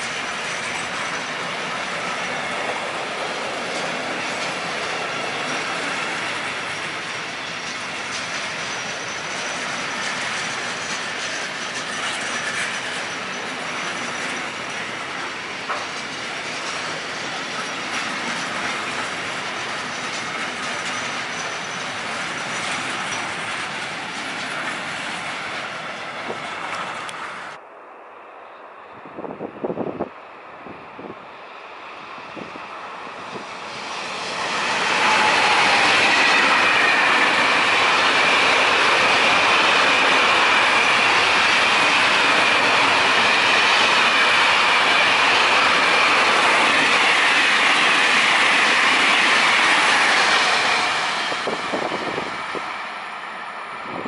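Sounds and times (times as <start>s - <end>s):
freight train wheels rumbling and clattering: 0.0s - 27.6s, 29.2s - 54.0s.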